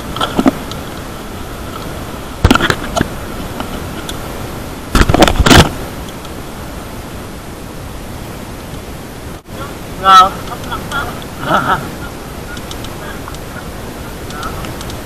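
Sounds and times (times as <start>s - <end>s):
wind and riding noise: 0.0s - 15.0s.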